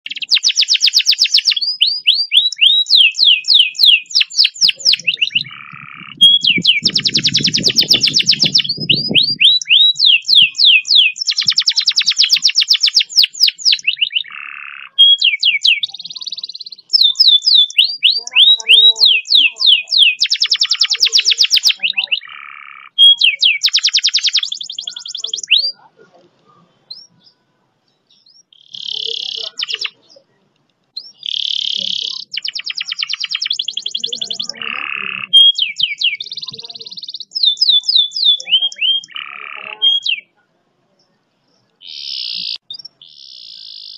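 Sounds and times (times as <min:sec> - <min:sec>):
canary singing: 0:00.0 - 0:40.4, 0:41.0 - 0:43.9.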